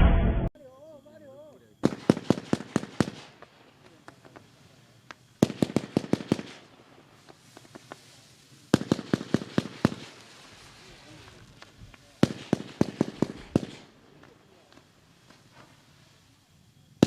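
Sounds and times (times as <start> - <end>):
firework cracks: 1.8 - 16.3.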